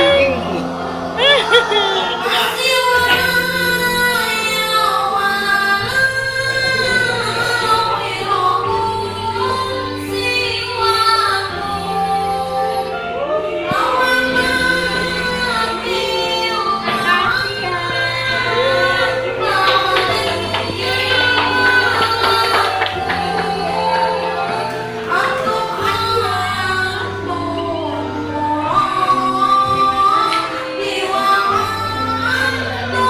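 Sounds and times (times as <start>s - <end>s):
instrumental accompaniment: 0.0s - 33.0s
person singing: 0.0s - 33.0s.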